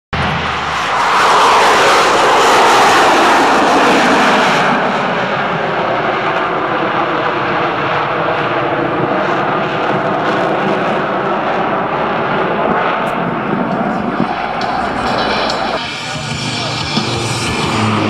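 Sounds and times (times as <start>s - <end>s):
aircraft engines and rockets roaring: 0.1s - 18.0s.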